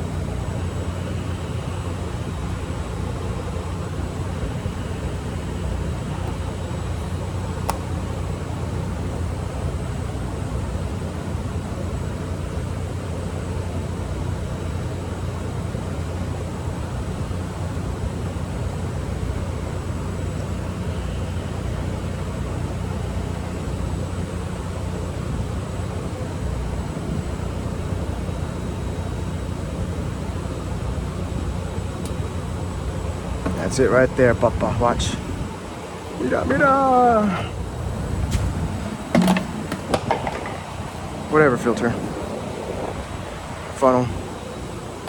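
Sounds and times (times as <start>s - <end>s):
faint high-pitched whine: 0.0s - 45.0s
low mechanical drone: 0.0s - 45.0s.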